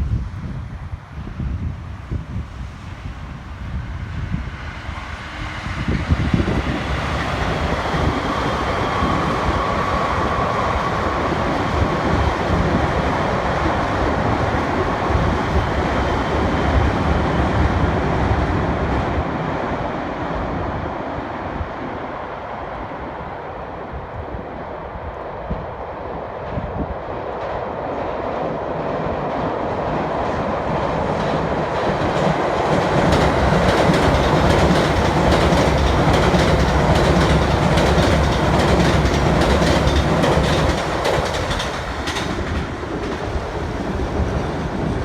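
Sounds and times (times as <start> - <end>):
electric train rumbling on rails: 0.0 - 45.0.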